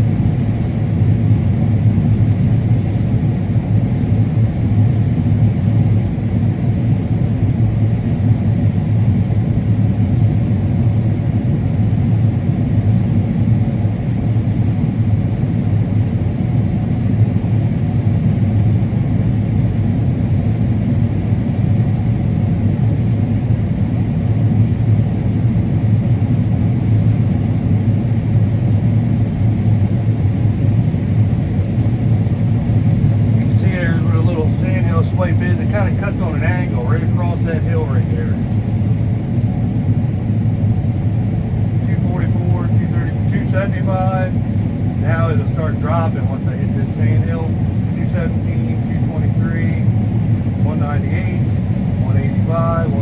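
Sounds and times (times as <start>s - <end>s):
combine harvester engine drone: 0.0s - 53.0s.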